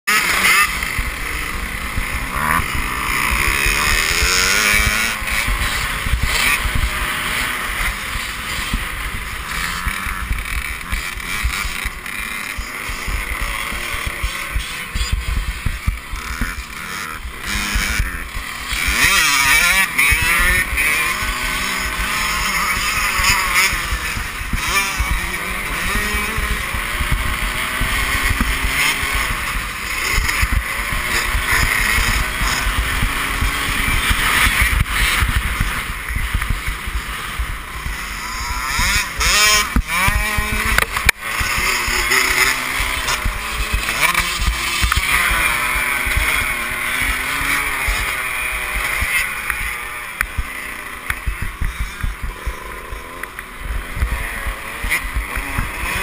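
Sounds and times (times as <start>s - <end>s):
motocross bike engine revving: 0.1s - 56.0s.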